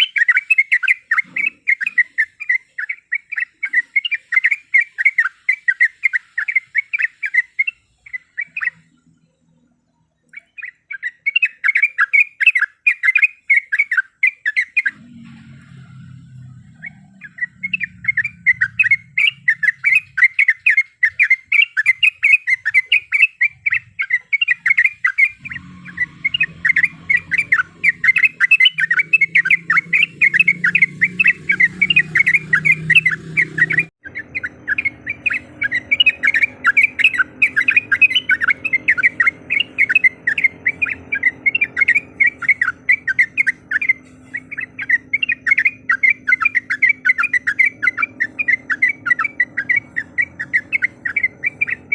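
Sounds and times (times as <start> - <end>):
bird chattering call: 0.0 - 8.9, 16.3 - 51.9.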